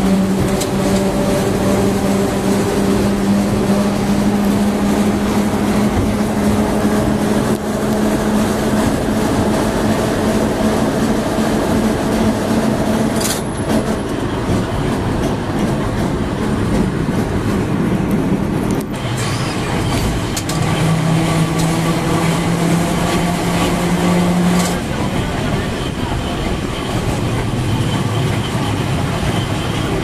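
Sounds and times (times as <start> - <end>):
tram motor hum: 0.0 - 30.0
tram wheels rumbling on rails: 0.0 - 30.0.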